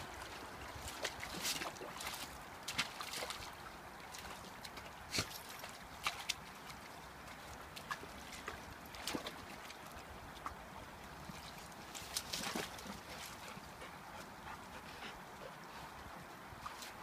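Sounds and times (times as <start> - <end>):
dogs splashing in water: 0.0 - 10.5, 11.1 - 14.7.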